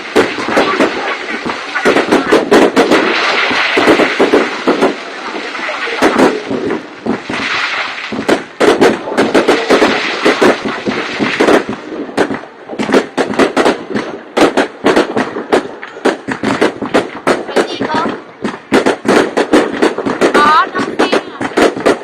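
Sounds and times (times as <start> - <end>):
continuous noisy din: 0.0 - 22.0
fireworks bangs: 0.0 - 22.0.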